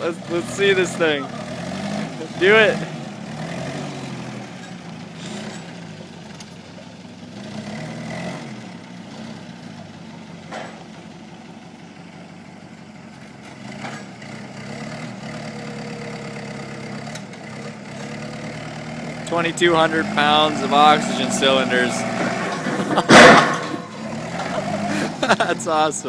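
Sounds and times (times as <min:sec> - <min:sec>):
forklift engine revving: 0:00.0 - 0:26.0.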